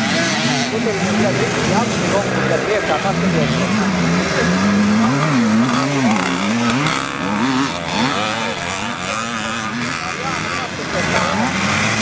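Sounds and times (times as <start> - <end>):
motocross motorcycle engines revving: 0.0 - 12.0.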